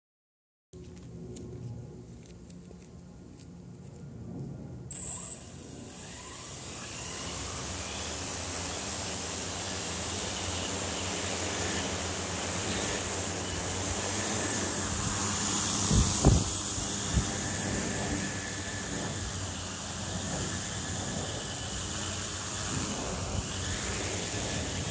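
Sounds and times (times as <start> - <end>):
low hum: 0.8 - 24.9
propellers rushing: 0.8 - 24.9
thin high tone: 4.9 - 24.9.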